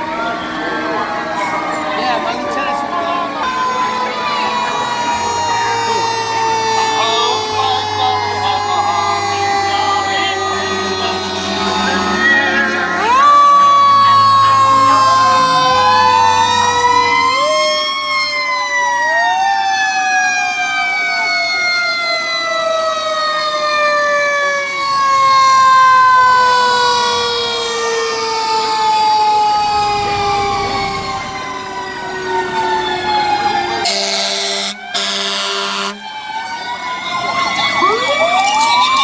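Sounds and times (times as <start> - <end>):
mechanical siren wailing: 0.0 - 39.0.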